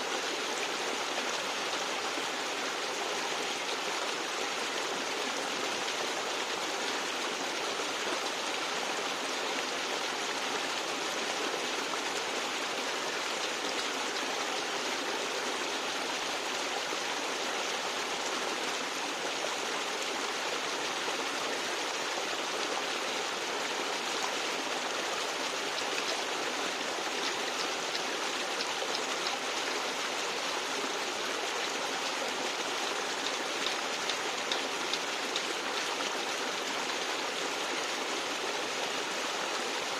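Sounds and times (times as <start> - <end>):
stream gurgling over rocks: 0.0 - 39.9.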